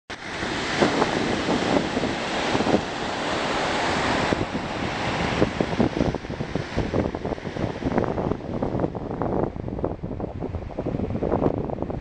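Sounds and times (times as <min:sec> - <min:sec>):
sea surf washing: 0:00.1 - 0:12.0
wind buffeting microphone: 0:00.1 - 0:12.0.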